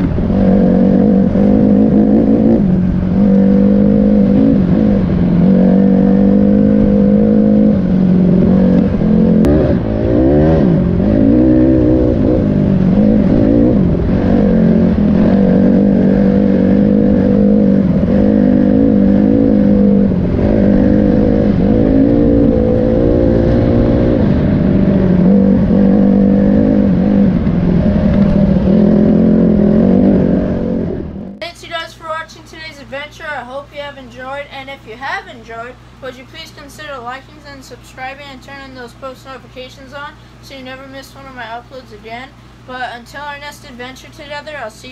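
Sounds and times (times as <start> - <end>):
off-road vehicle engine running: 0.0 - 44.9.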